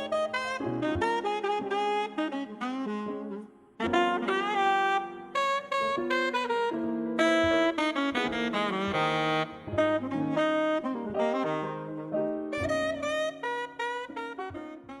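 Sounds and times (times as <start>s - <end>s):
jazz music with saxophone: 0.0s - 15.0s
piano: 0.0s - 15.0s.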